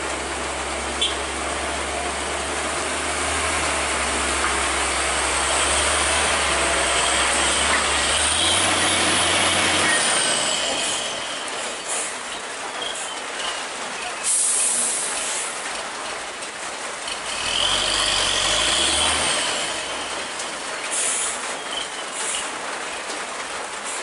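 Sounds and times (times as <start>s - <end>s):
heavy truck engine under load: 0.0s - 24.0s
road noise: 0.0s - 24.0s.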